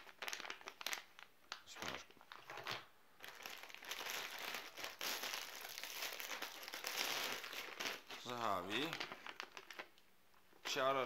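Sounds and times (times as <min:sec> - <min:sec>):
plastic food pouches crinkling: 0:00.0 - 0:11.0.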